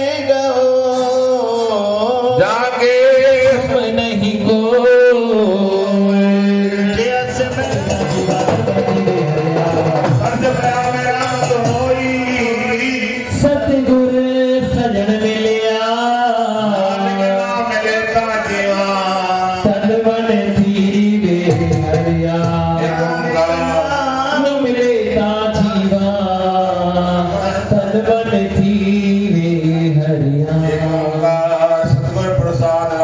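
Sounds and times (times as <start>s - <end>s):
man singing into a microphone: 0.0s - 33.0s
musical accompaniment: 0.0s - 33.0s.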